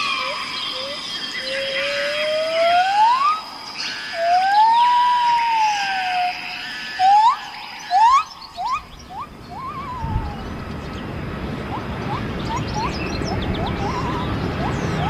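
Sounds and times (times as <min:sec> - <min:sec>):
birds whistling: 0:00.0 - 0:15.0
higher bird chirping: 0:00.0 - 0:15.0.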